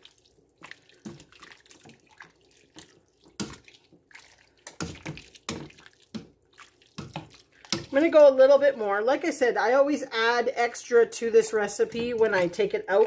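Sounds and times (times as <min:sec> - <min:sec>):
stew sloshing while stirred: 0:00.0 - 0:09.1, 0:11.1 - 0:13.0.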